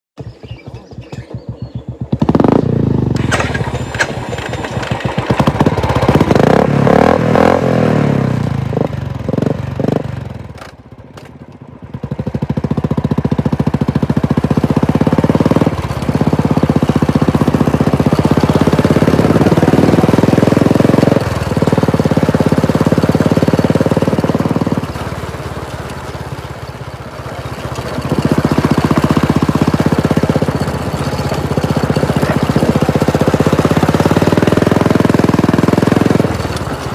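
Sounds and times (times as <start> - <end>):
motorcycle engine revving: 0.2 - 36.9.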